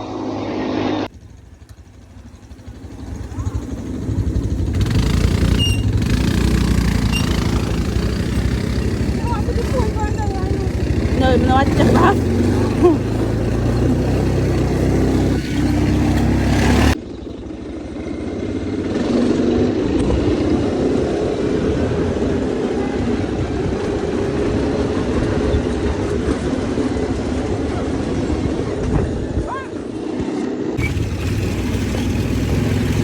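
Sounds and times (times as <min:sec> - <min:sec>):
vehicle engine running: 0:01.0 - 0:29.3, 0:30.8 - 0:33.0.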